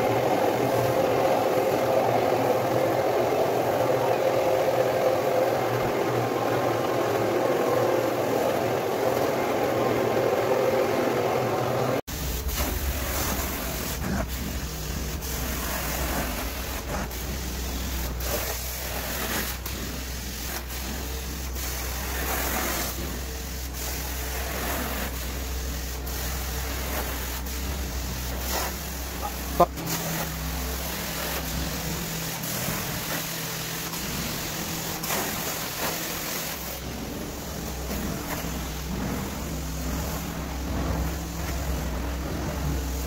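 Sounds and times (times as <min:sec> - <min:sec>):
carpet cleaning machine droning: 0:00.0 - 0:43.0.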